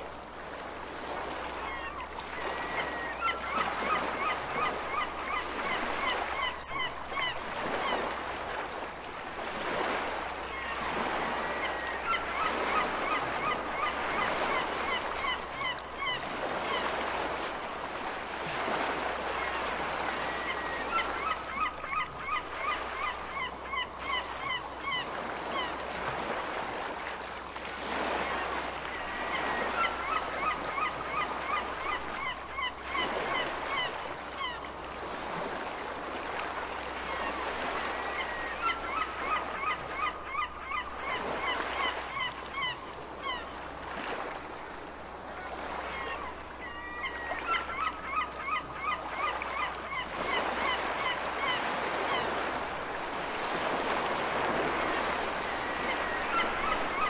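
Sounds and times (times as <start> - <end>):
ocean waves: 0.0 - 57.0
seagulls calling: 1.4 - 8.1, 9.6 - 17.4, 18.6 - 25.8, 28.0 - 35.6, 37.0 - 44.4, 45.4 - 52.5, 53.4 - 57.0.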